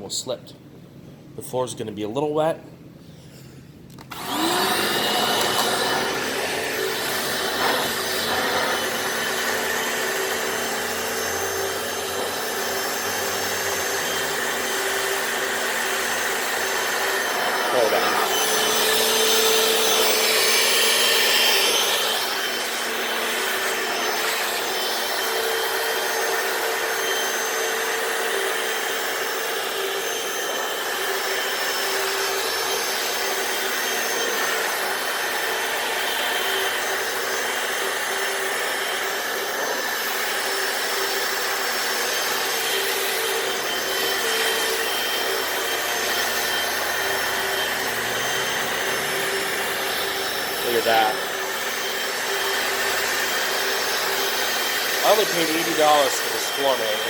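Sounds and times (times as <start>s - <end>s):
floor cleaner motor whine: 3.9s - 57.0s.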